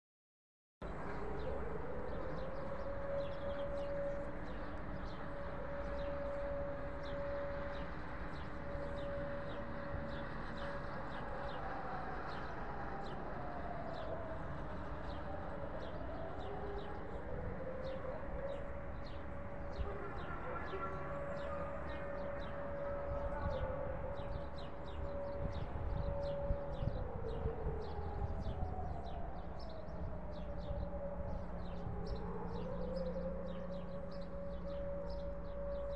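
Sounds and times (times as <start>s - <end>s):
distant siren: 0.8s - 35.9s.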